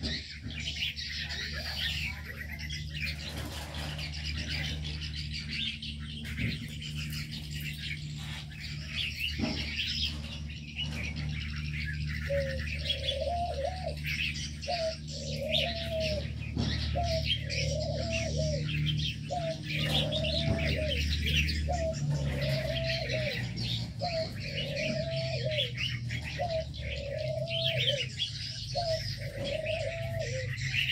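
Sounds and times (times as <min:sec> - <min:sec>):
dove cooing: 0:00.0 - 0:30.9
small birds chirping: 0:00.0 - 0:30.9
steady low hum: 0:00.0 - 0:30.9.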